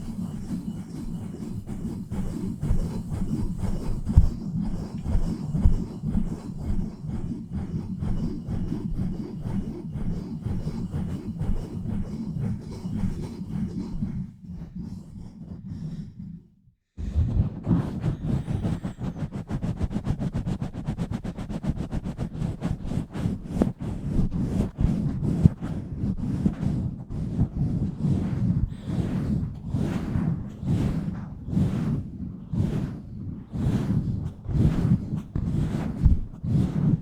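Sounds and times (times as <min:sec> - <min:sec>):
hands rubbing over microphone: 0:00.0 - 0:16.0, 0:17.0 - 0:37.0.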